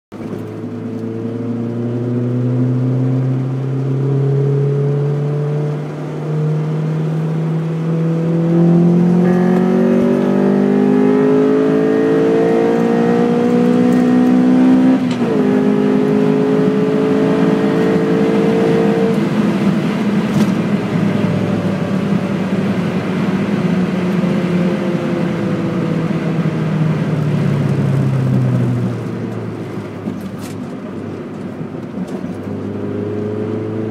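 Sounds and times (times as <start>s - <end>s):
car engine accelerating: 0.2s - 33.9s.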